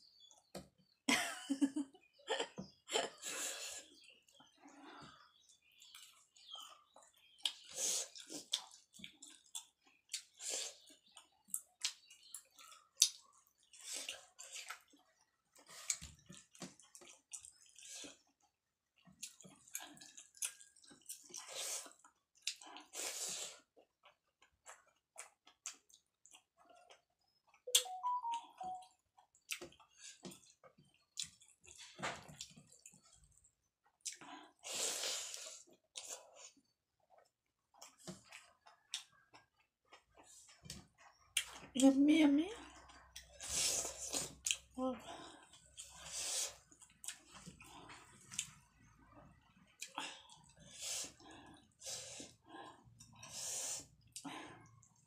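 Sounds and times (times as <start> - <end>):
wet chewing: 3.8 - 28.0, 28.6 - 41.8, 42.6 - 53.4.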